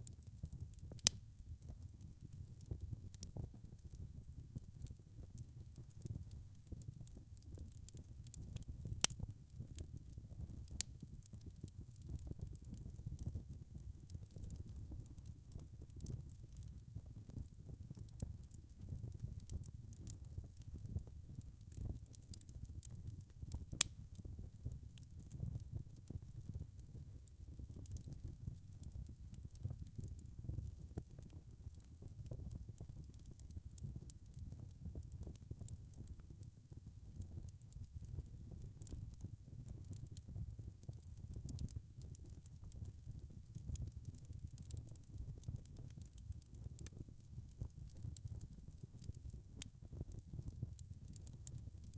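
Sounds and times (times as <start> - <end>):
wood fire crackling: 0.1 - 51.9.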